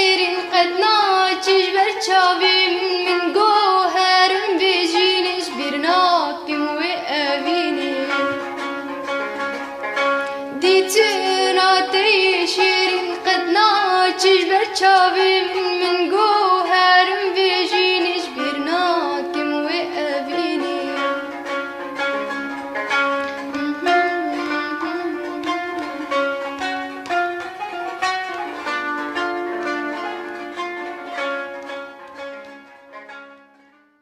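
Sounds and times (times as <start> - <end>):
bowed strings: 0.0 - 34.0
plucked strings: 0.0 - 34.0.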